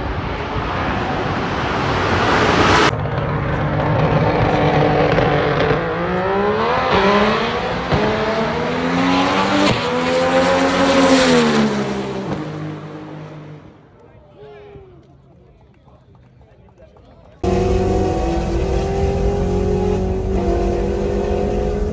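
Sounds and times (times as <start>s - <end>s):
race car engine accelerating: 0.1s - 13.8s, 17.4s - 21.9s.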